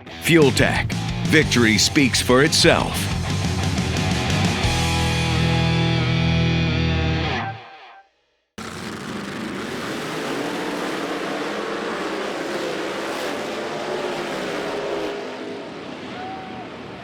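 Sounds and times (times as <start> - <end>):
truck engine at full throttle: 0.2 - 5.6, 8.6 - 17.0.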